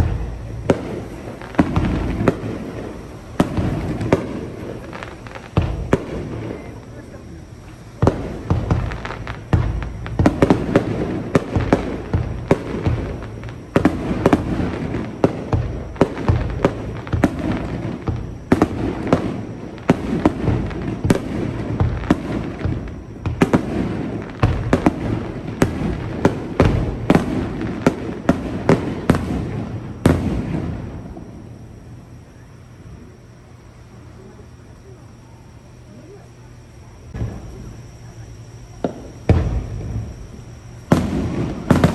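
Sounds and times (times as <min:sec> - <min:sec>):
fireworks bursting with sharp bangs: 0:00.0 - 0:41.9
rumble and crackle: 0:00.0 - 0:41.9.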